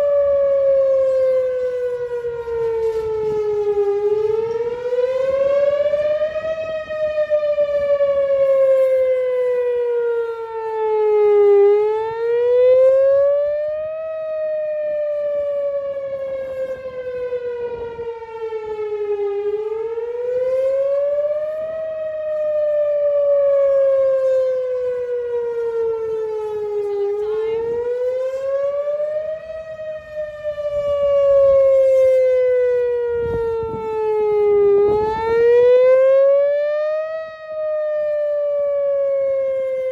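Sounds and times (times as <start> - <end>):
tornado siren wailing: 0.0 - 39.9.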